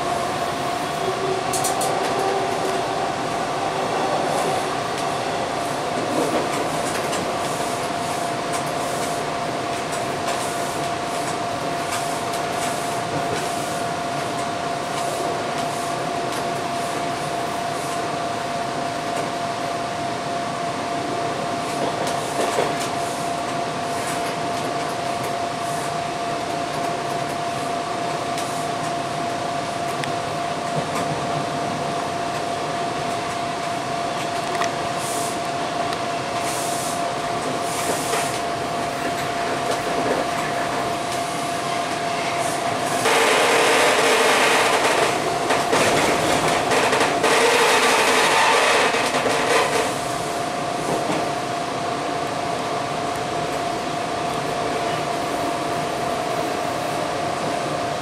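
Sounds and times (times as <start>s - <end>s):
subway train rolling with whine: 0.0s - 58.0s.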